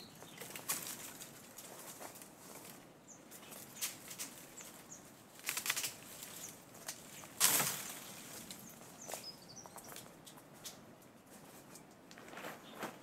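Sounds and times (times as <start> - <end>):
rustles and clicks: 0.2 - 13.0.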